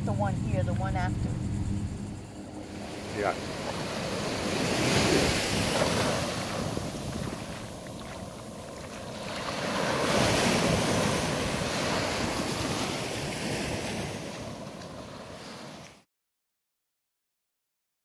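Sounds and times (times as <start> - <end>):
wind on the microphone: 0.2 - 15.5
surf rushing in: 1.2 - 16.0.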